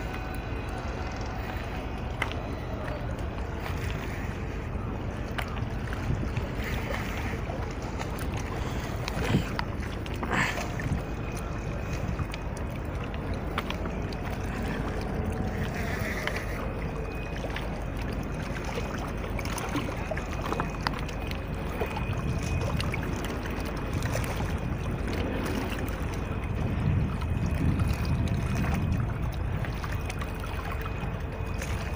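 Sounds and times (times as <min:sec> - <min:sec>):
moving water: 0:00.0 - 0:31.9
wind rumble on microphone: 0:00.0 - 0:31.9.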